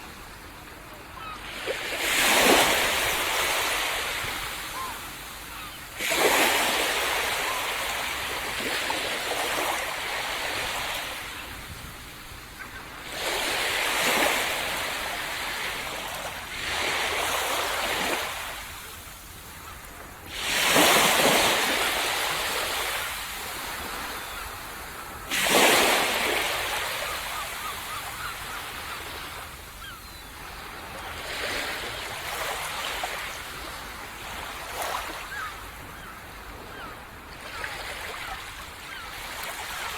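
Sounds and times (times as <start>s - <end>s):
waves crashing on a beach: 0.0s - 39.9s.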